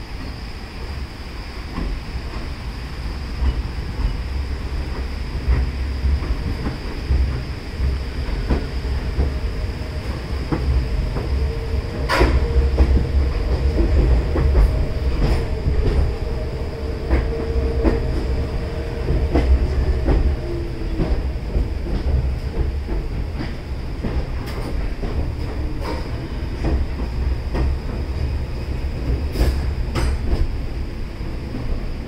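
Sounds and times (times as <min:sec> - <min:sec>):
subway train rumbling: 0:00.0 - 0:32.0
train whine: 0:00.0 - 0:32.0.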